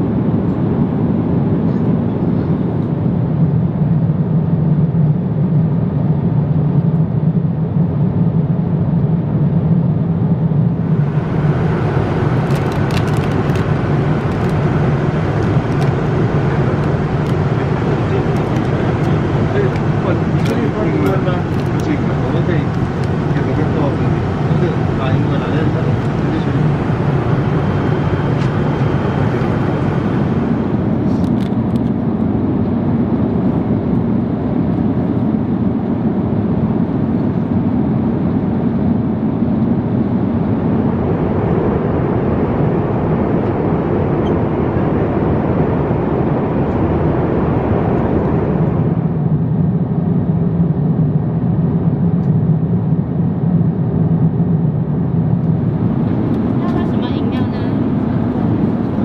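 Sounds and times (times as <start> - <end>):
airliner cabin airflow and engines: 0.0 - 59.0.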